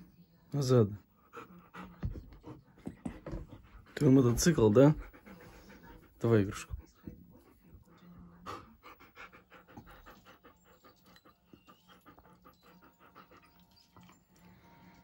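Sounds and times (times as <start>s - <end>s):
dog panting rapidly: 1.2s - 14.1s.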